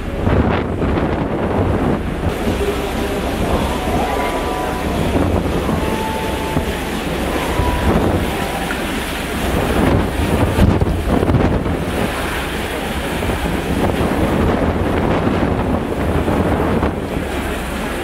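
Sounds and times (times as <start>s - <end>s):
wind blowing on microphone: 0.0s - 18.0s.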